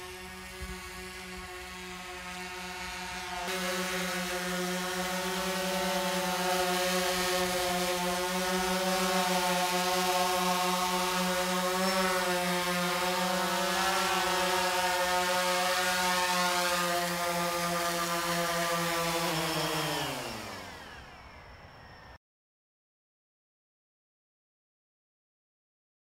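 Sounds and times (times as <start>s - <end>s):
drone propellers buzzing: 0.0s - 22.2s.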